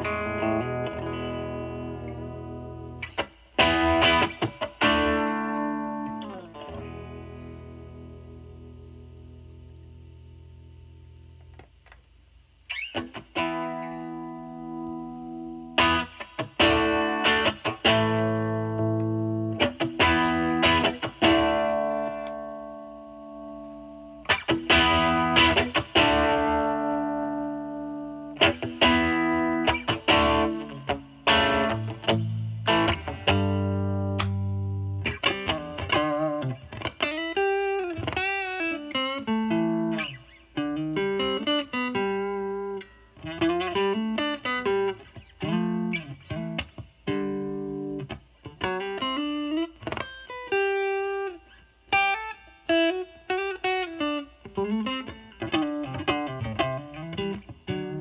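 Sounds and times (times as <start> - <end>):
overdriven electric guitar: 0.0 - 58.0.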